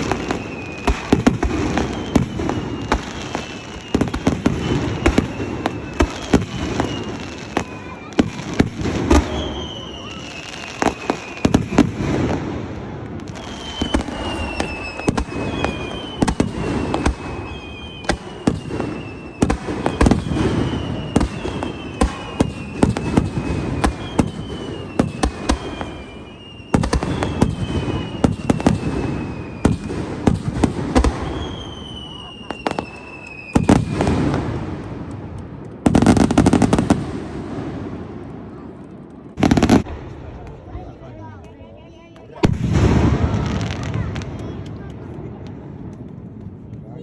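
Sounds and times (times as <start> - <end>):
firework whistles: 0.0 - 39.9
fireworks bangs and crackles: 0.0 - 47.0.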